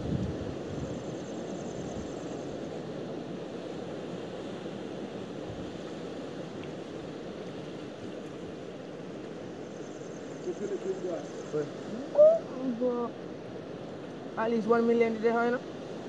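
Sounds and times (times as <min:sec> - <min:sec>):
sea surf on rocky shore: 0:00.0 - 0:16.0.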